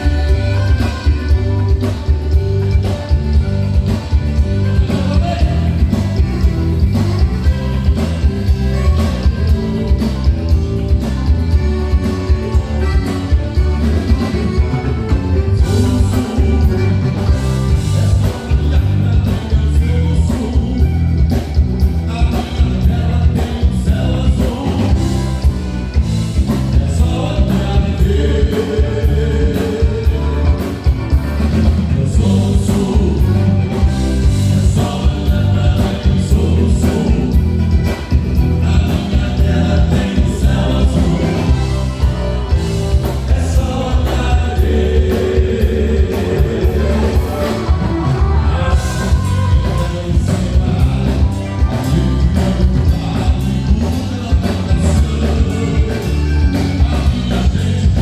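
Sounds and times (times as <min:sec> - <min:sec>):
live band playing folk music: 0:00.0 - 0:58.0.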